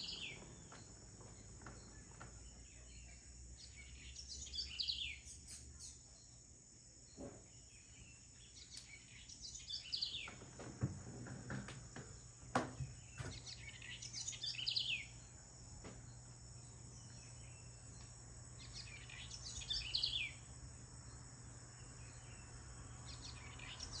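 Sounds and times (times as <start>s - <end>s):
bird song phrase: 0.0s - 10.6s, 12.8s - 15.4s, 16.1s - 20.5s, 21.1s - 24.0s.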